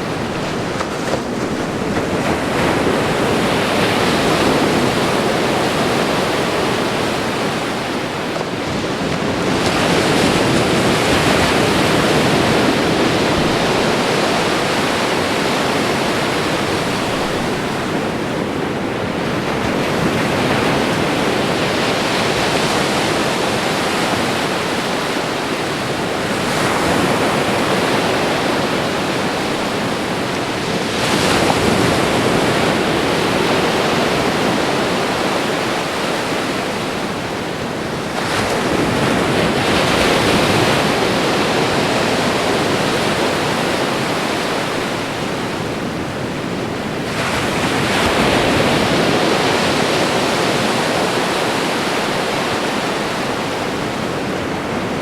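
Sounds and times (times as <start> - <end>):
ocean waves washing ashore: 0.0 - 55.0.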